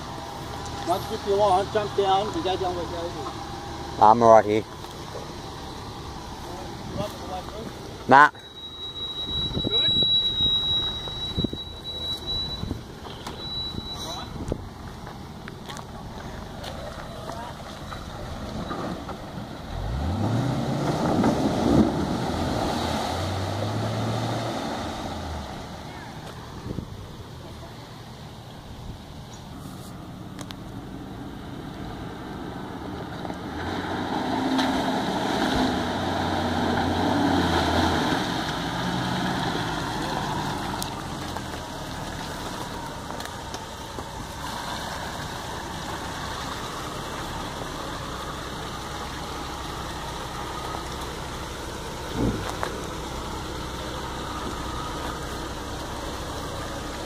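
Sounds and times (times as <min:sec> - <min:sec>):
vehicle engine working: 0:00.0 - 0:57.0.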